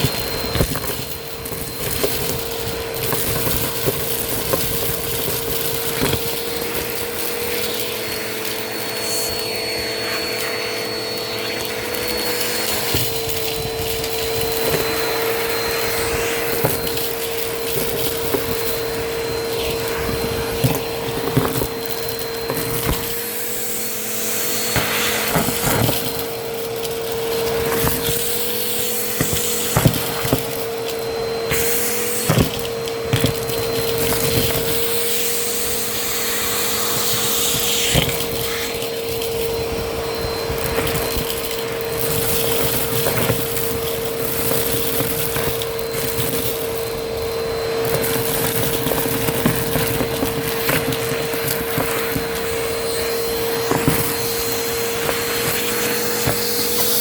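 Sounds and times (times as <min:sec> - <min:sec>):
debris clicking and crunching: 0:00.0 - 0:57.0
vacuum cleaner motor whine: 0:00.0 - 0:57.0.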